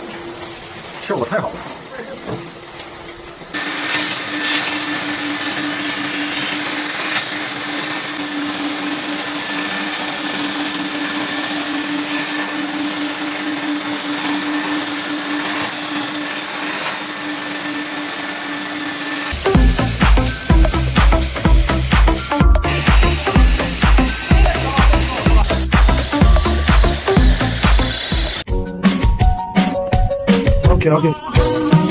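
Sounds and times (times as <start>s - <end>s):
power tool motor: 0.0s - 28.5s
industrial vacuum: 0.0s - 30.5s.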